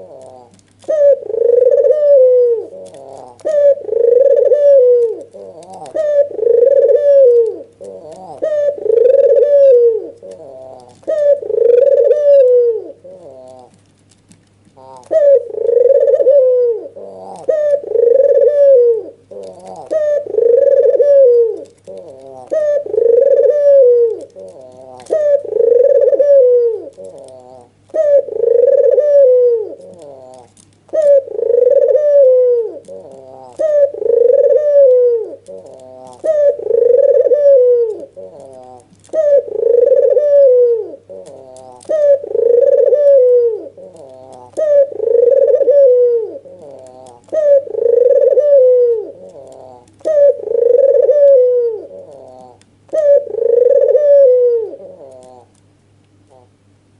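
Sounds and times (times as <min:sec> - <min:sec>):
dove cooing: 0:00.0 - 0:55.6, 0:56.2 - 0:56.6
faint steady hum: 0:00.0 - 0:56.9.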